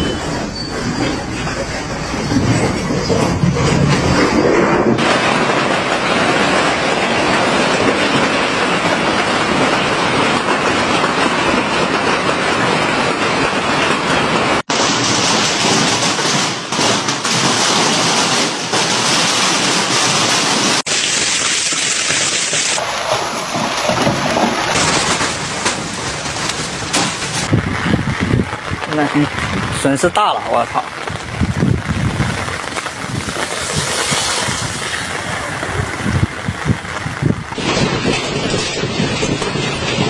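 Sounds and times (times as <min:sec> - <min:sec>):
hail pelting in strong wind: 0:00.2 - 0:40.0.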